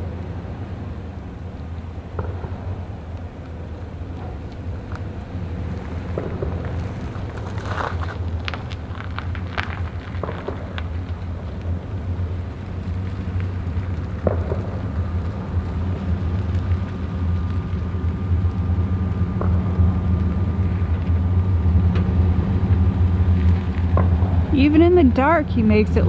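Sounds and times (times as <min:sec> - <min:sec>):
pickup truck engine low drone: 0:00.0 - 0:26.0.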